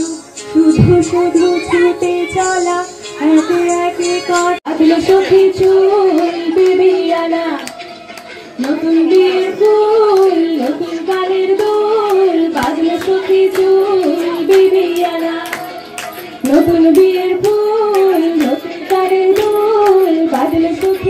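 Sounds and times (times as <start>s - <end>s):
percussion beat: 0.0s - 3.9s, 7.6s - 21.0s
woman singing into a microphone: 0.0s - 7.7s, 8.6s - 21.0s.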